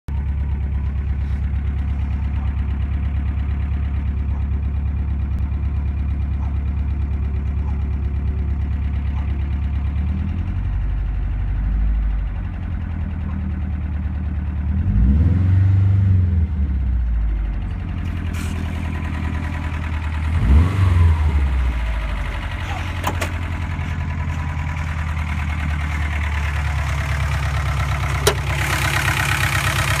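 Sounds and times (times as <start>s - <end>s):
engine idling and revving: 0.1s - 30.0s.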